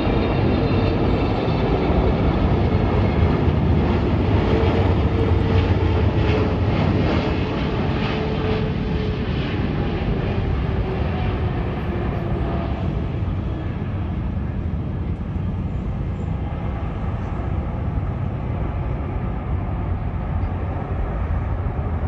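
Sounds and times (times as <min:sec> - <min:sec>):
faint jet whine: 0:00.0 - 0:22.0
jet engines rumbling: 0:00.0 - 0:22.0.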